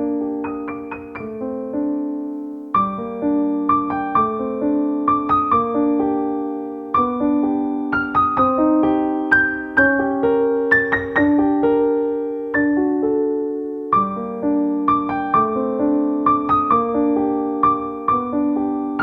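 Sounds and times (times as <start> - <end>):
solo piano melody: 0.0 - 19.0.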